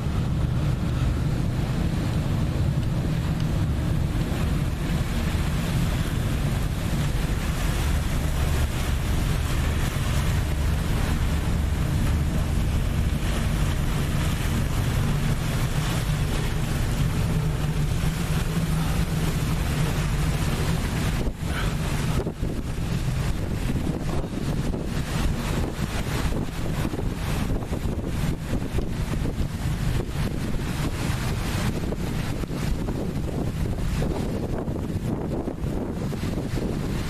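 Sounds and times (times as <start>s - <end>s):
boat engine droning: 0.0s - 37.0s
water rushing: 0.0s - 37.0s
wind on microphone: 0.0s - 37.0s.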